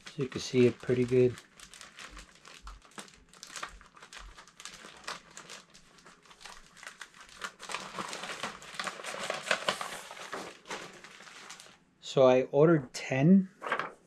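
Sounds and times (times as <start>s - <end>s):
packaging crinkling and rustling: 0.0s - 11.8s.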